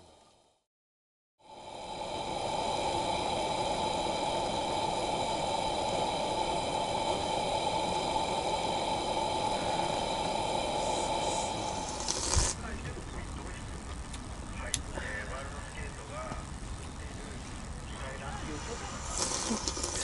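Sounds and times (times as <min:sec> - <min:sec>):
faint high-pitched whines: 0:01.4 - 0:20.0
steady hiss: 0:01.4 - 0:20.0.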